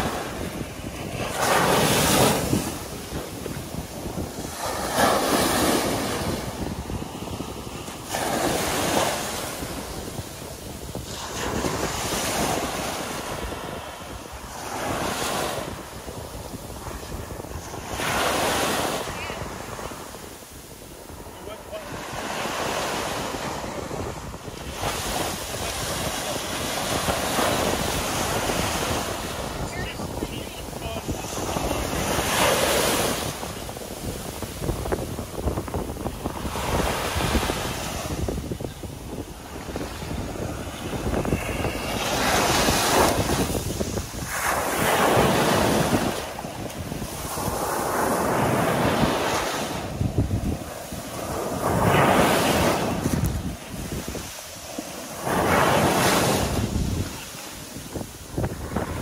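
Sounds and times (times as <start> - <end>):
ocean surf breaking on beach: 0.0 - 59.0
small waves washing over sand: 0.0 - 59.0
wind rumble on microphone: 0.0 - 59.0.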